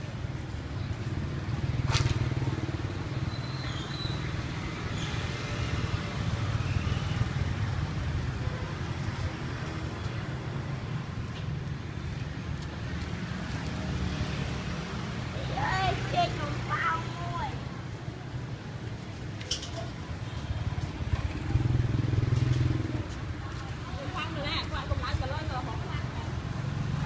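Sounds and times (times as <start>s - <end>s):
vehicle engines rumbling: 0.0s - 27.0s.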